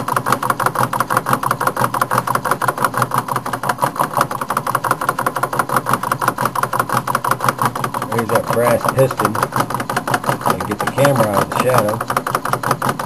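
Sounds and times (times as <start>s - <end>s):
stirling engine clattering: 0.0s - 13.0s.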